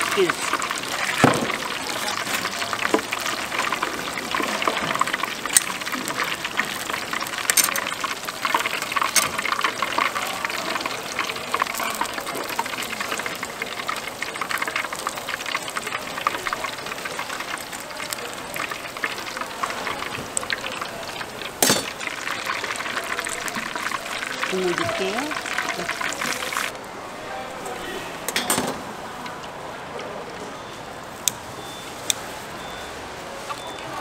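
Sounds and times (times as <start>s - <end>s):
squid deep-frying in oil: 0.0s - 26.8s, 30.6s - 32.8s.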